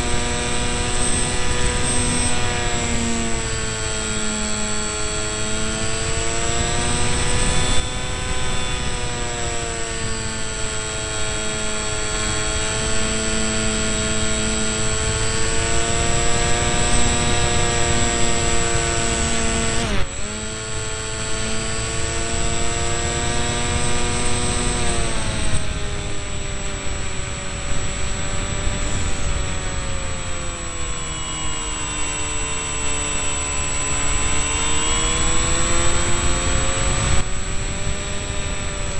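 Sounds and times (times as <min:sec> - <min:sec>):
electric propeller whining buzz: 0:00.0 - 0:38.9.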